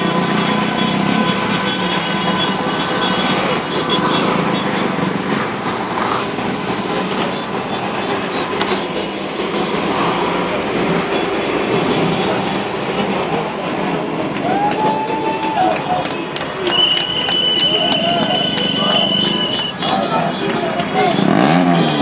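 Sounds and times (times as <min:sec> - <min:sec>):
traffic passing by: 0:00.0 - 0:22.0.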